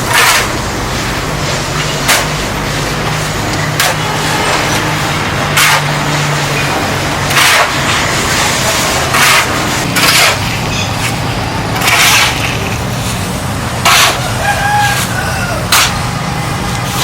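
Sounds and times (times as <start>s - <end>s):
low engine hum: 0.0s - 17.0s
rough scraping strokes: 0.0s - 17.0s.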